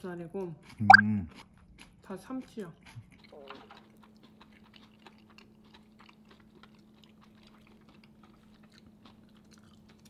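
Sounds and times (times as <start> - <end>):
close chewing with soft crunches: 0.0 - 10.0.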